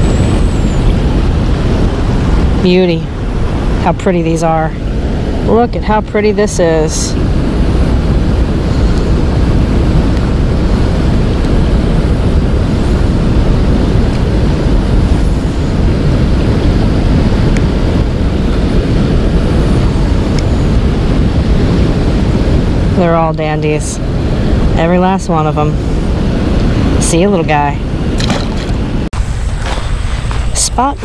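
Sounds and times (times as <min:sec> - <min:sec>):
wind on microphone: 0:00.0 - 0:31.0.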